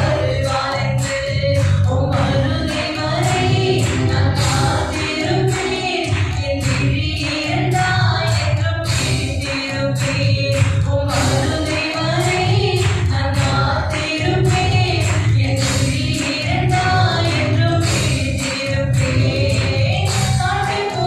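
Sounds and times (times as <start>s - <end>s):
group of voices singing: 0.0s - 21.0s
instrumental accompaniment with beat: 0.0s - 21.0s.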